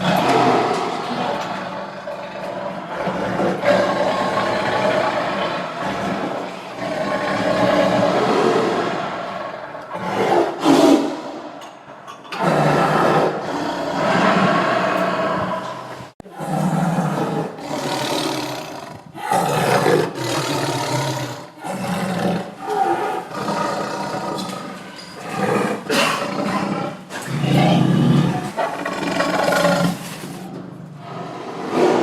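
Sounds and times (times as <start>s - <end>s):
tiger roaring and growling: 0.0s - 11.6s, 12.2s - 32.0s.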